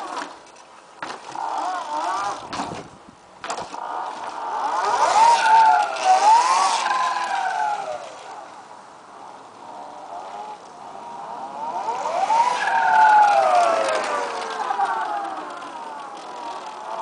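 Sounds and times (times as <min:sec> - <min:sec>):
electric motor whining: 0:01.0 - 0:02.9, 0:03.5 - 0:08.6, 0:09.2 - 0:17.0.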